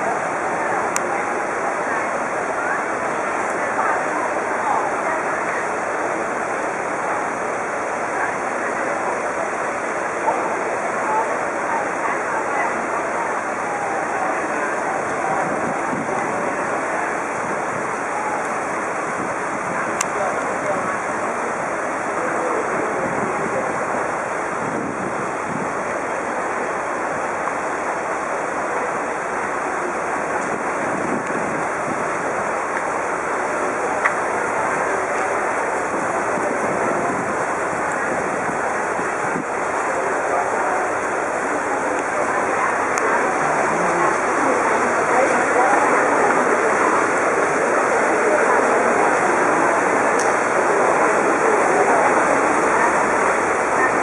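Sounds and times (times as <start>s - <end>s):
floodwater rushing past: 0.0s - 54.0s
wind: 0.0s - 54.0s.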